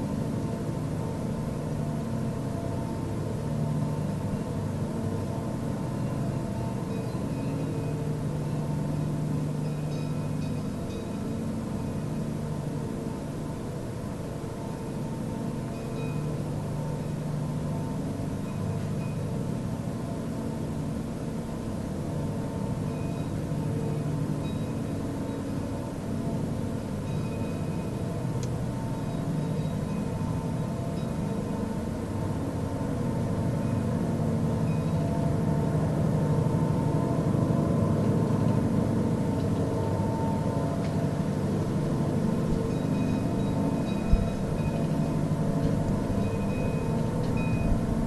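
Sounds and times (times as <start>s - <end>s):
low droning hum: 0.0s - 48.0s.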